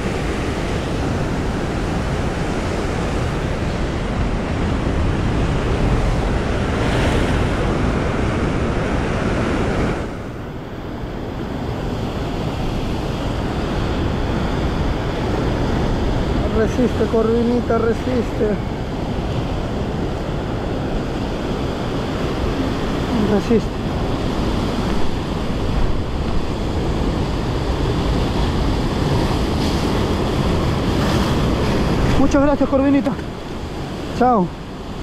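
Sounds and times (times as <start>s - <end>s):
surf washing on a beach: 0.0s - 35.0s
wind on microphone: 0.0s - 35.0s.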